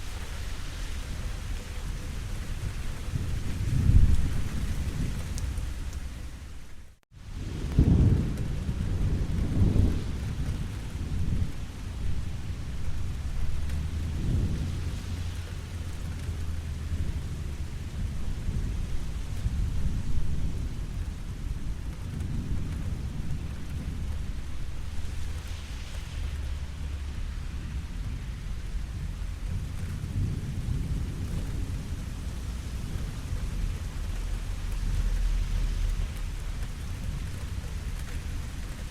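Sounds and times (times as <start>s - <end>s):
low rolling thunder: 0.0s - 6.4s, 7.2s - 38.9s
steady rain falling: 0.0s - 38.9s.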